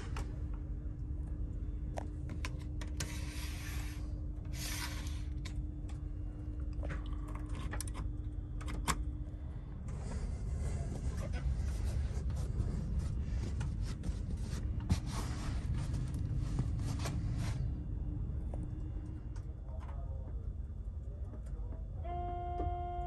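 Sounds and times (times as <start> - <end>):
train carriage rumble and hum: 0.0 - 23.0.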